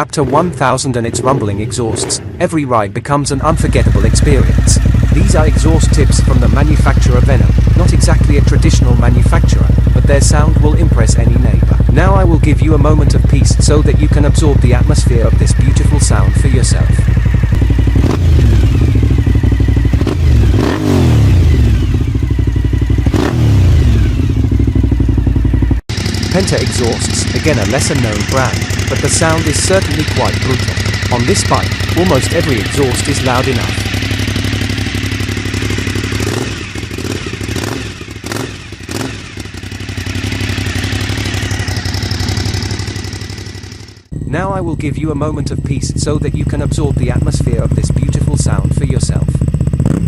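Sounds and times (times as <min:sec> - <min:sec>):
motorcycle engine revving: 0:00.0 - 0:50.0
sharp exhaust cracks: 0:03.3 - 0:50.0.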